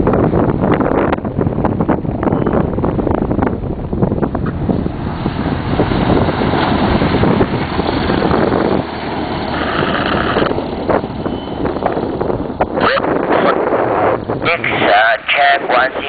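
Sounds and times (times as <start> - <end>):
propeller airplane engine: 0.0 - 16.0
wind buffeting microphone: 0.0 - 16.0.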